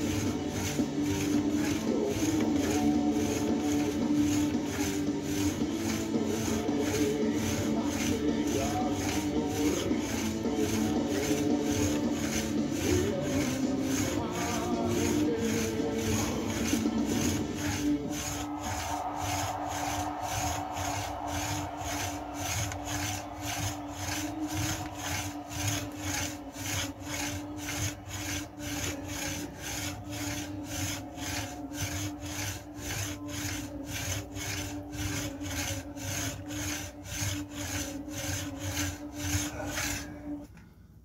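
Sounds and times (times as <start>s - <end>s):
spring exerciser rasping: 0.0s - 40.6s.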